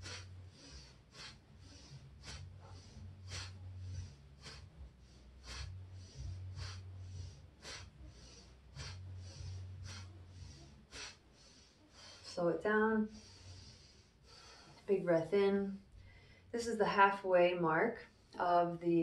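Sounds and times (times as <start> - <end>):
woman breathing forcefully: 0.0 - 16.6.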